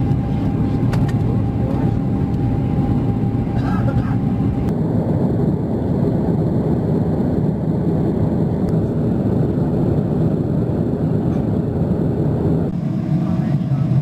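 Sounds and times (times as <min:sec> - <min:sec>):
airliner cabin engine roar: 0:00.0 - 0:14.0.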